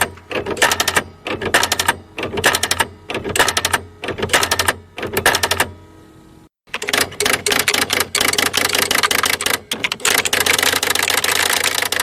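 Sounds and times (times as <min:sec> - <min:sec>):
typewriter key strikes: 0:00.0 - 0:05.7, 0:06.7 - 0:12.0.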